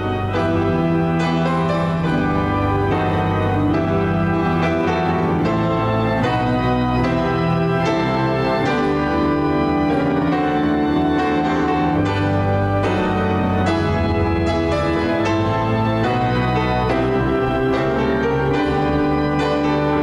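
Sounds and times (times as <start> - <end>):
organ playing held chords: 0.0 - 20.0.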